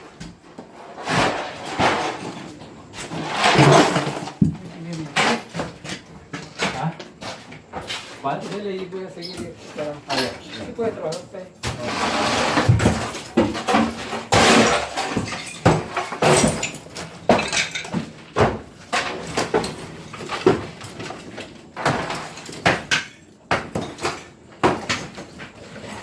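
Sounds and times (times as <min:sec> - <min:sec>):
debris knocking and clattering: 0:00.1 - 0:08.6, 0:09.4 - 0:26.0.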